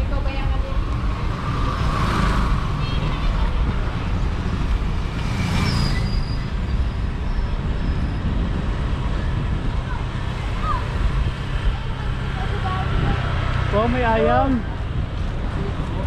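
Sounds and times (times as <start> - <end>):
wind on microphone: 0.0 - 13.8
bicycle road rumble: 0.0 - 16.0
vehicles passing: 0.0 - 16.0.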